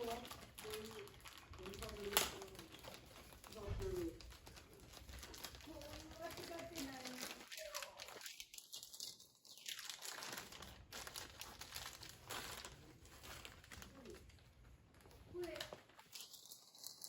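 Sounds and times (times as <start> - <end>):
crinkling and rustling: 0.0 - 17.0.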